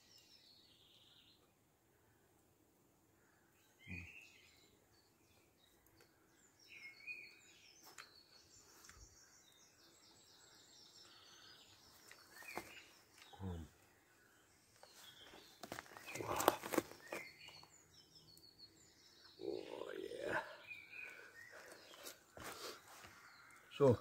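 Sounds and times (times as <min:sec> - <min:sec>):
small birds chirping faintly: 0:00.0 - 0:24.0.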